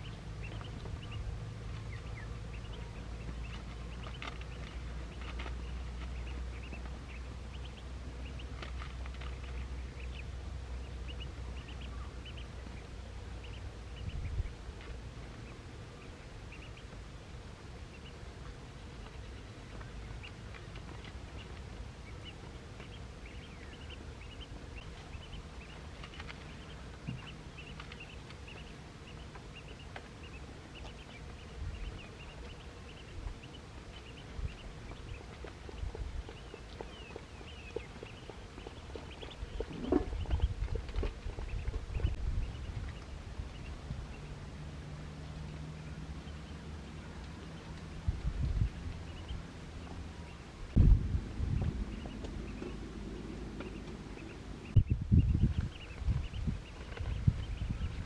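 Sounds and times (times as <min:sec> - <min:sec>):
low rumble: 0:00.0 - 0:58.0.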